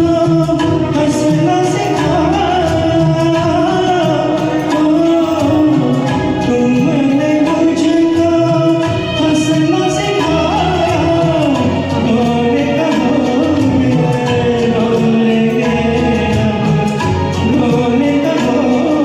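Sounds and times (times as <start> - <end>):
film song backing music: 0.0 - 19.0.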